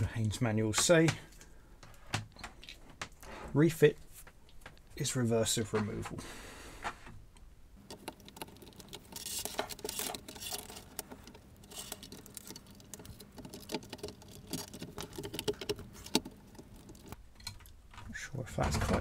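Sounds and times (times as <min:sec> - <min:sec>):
small clicks taps and rustles: 0:00.1 - 0:03.3, 0:04.0 - 0:06.2, 0:07.3 - 0:19.0.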